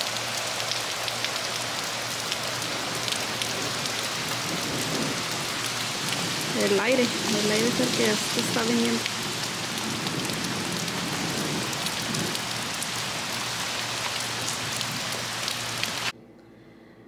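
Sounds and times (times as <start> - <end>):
heavy rain on patio and lawn: 0.0 - 16.1.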